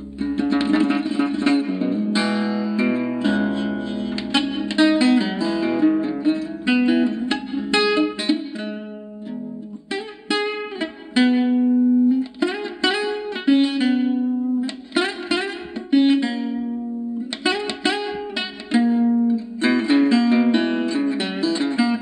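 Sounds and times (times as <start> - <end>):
solo guitar playing: 0.0 - 22.0.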